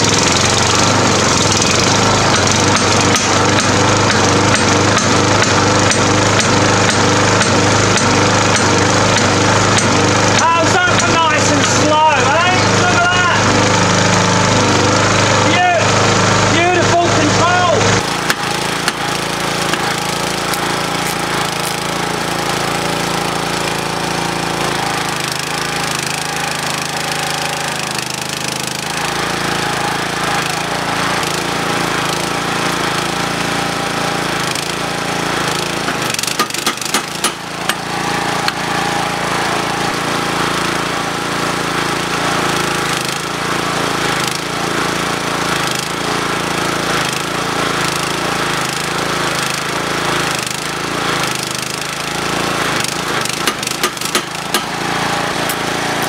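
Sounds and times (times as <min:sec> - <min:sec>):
power hammer blows: 0:00.0 - 0:47.3, 0:52.4 - 0:56.0
petrol engine running: 0:00.0 - 0:56.0.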